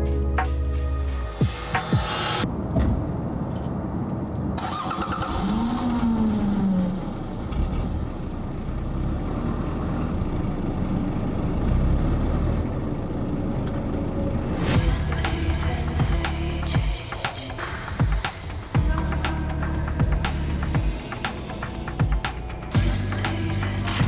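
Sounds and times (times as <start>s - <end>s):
car engine starting and running: 0.0s - 24.0s.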